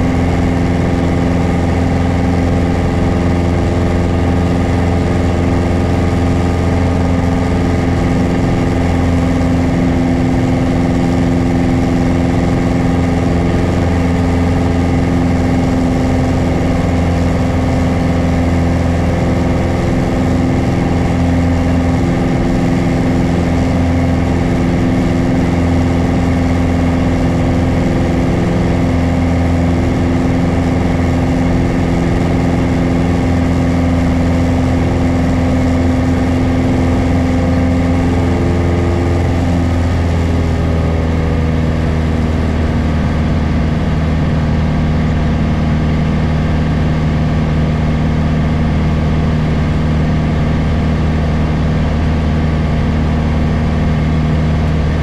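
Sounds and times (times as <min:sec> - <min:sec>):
airplane engine and propeller: 0:00.0 - 0:55.0.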